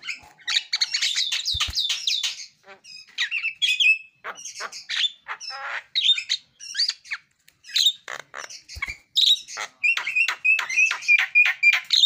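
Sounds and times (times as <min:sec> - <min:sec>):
bird singing squawks and whistles: 0:00.0 - 0:12.0.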